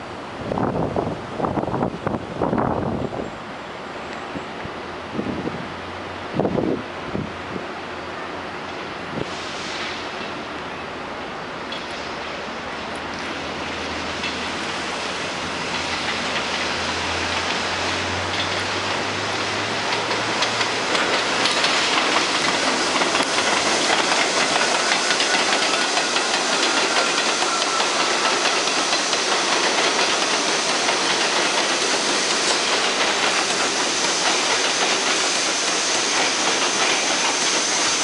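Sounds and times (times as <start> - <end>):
train wheels rushing on rails: 0.0 - 38.0.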